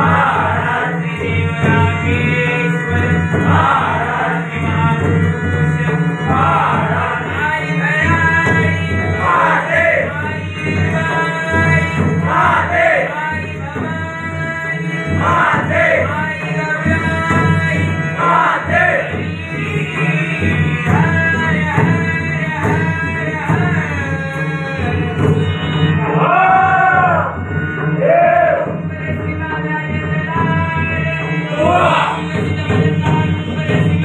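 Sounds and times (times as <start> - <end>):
men singing in chorus: 0.0 - 25.4, 26.0 - 34.0
barrel drum: 0.0 - 26.1, 29.9 - 34.0
tabla: 0.0 - 34.0.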